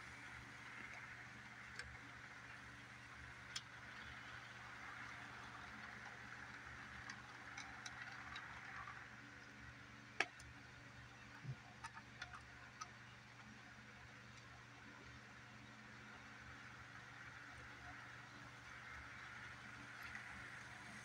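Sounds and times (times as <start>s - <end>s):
model train running hum: 0.0s - 21.0s.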